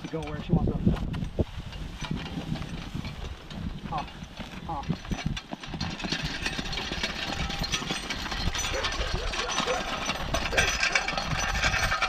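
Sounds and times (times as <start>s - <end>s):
chain scraping and rattling on gravel: 0.0s - 12.0s.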